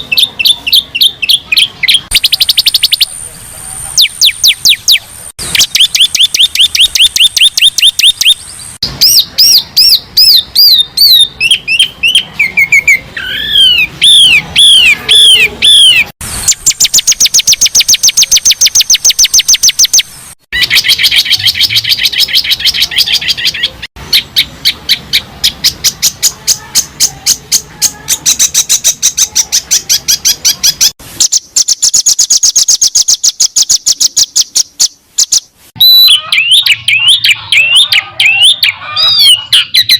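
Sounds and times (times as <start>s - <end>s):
songbird chirps and trills: 0.0s - 39.9s
whistled bird notes: 0.0s - 39.9s.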